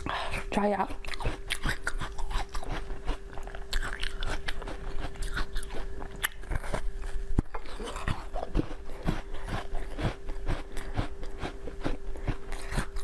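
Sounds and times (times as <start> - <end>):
crunchy biting and chewing: 0.0 - 13.0
faint steady hum: 0.0 - 13.0.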